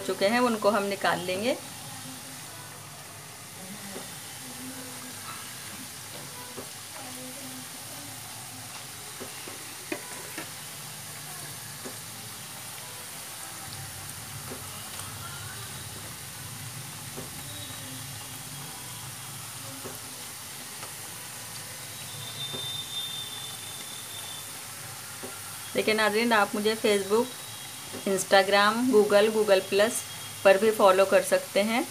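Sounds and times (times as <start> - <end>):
food sizzling in hot oil: 0.0 - 31.9.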